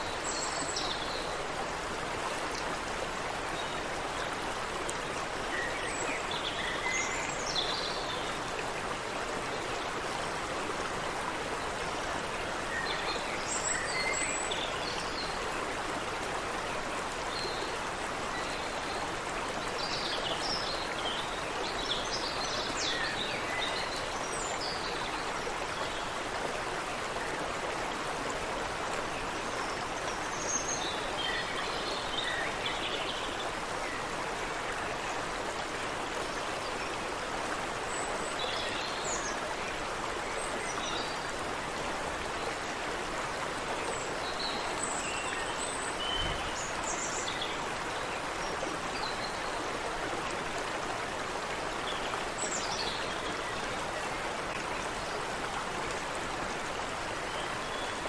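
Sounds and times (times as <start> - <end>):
creek water over rocks: 0.0 - 58.0.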